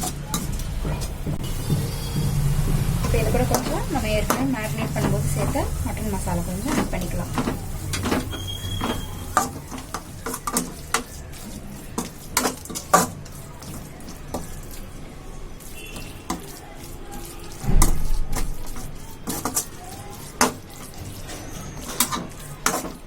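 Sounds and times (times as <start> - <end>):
food sizzling in a pan: 0.0 - 23.0
spoon clacking against pan: 0.0 - 23.0
spoon scraping a pan: 0.0 - 23.0.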